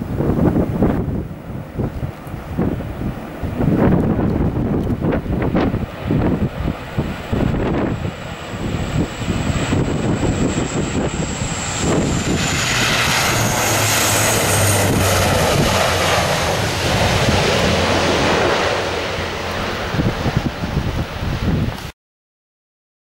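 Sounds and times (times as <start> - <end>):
high turbine whine: 0.0 - 21.7
turboprop engines droning: 0.0 - 21.7
wind buffeting microphone: 0.0 - 21.9.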